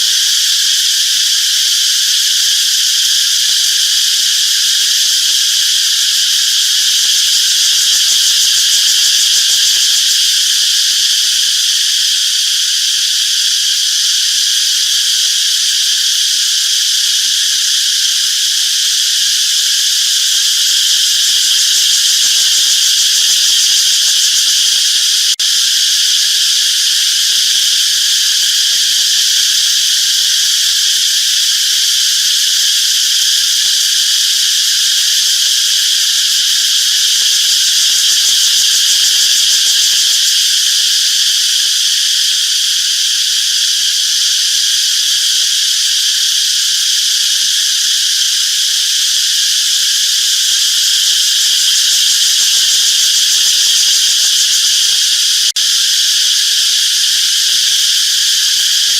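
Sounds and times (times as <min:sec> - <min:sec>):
cicadas buzzing: 0:00.0 - 0:58.9.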